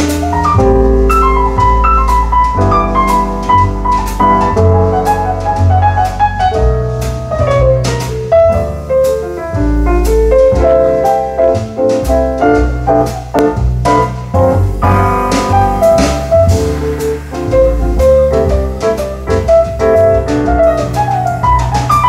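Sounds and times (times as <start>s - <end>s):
jazz piano: 0.0s - 22.0s
walking bass line: 0.0s - 22.0s.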